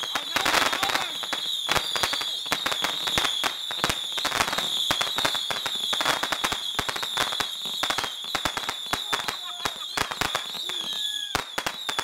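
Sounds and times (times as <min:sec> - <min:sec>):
fireworks and firecrackers banging: 0:00.0 - 0:12.0.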